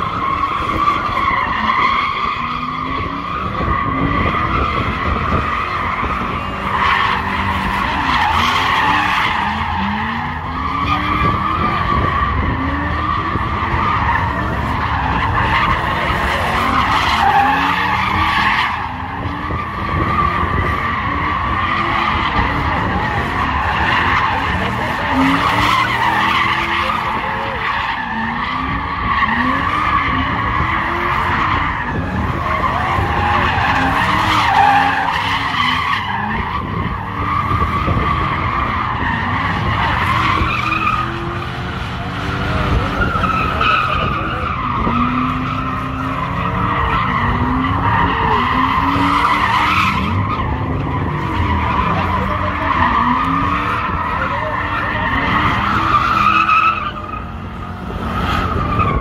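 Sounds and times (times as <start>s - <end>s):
car engine revving: 0.0s - 59.0s
tyres screeching: 0.0s - 59.0s.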